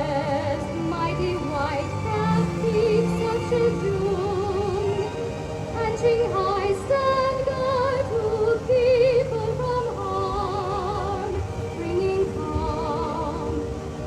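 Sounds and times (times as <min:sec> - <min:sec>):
person singing with vibrato: 0:00.0 - 0:14.0.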